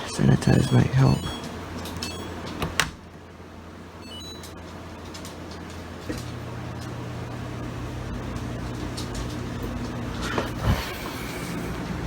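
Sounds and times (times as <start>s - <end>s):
air conditioner humming: 0.0s - 12.0s
dishwasher low hum: 0.0s - 12.0s.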